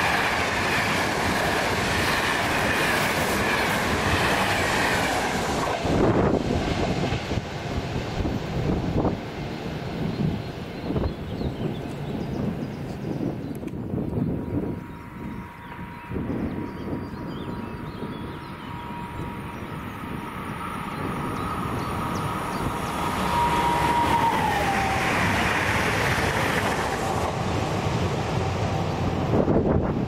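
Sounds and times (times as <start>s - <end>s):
train rushing past: 0.0s - 30.0s.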